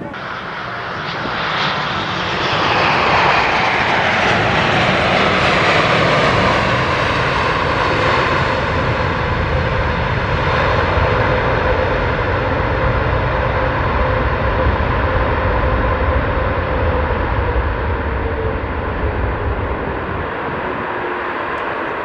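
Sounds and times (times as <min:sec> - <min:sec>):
jet airliner passing: 0:00.0 - 0:22.0.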